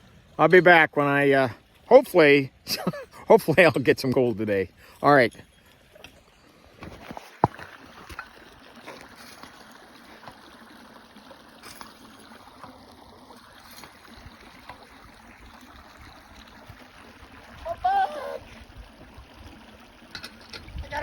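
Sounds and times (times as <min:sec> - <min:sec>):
creek water trickling: 0:00.0 - 0:21.0.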